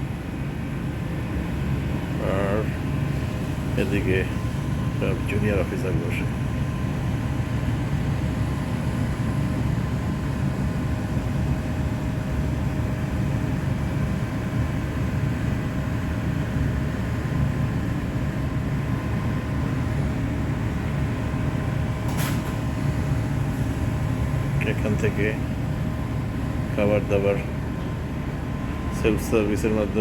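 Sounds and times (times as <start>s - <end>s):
ship machinery drone: 0.0s - 30.0s.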